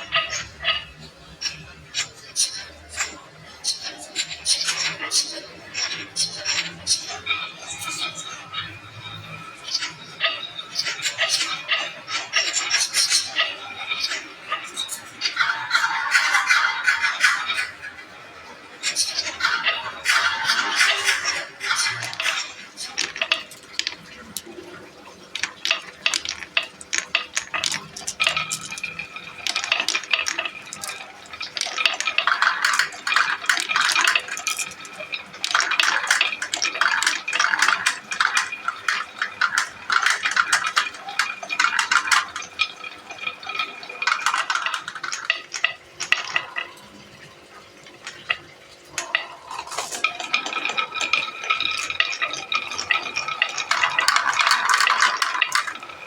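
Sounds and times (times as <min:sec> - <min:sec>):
marbles rolling and clattering: 0:00.0 - 0:56.0.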